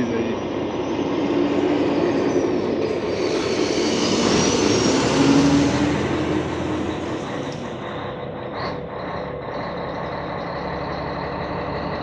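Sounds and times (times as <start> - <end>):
diesel truck driving past: 0.0 - 12.0.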